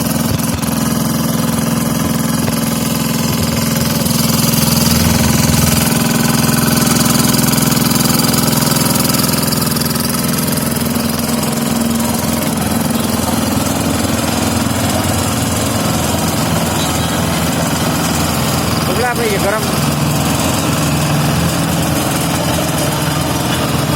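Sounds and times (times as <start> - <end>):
road roller engine running: 0.0 - 23.9.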